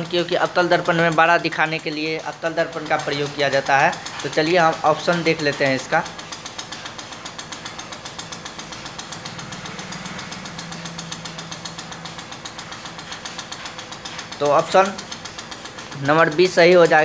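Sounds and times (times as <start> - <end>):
machine knocking: 0.0 - 17.0.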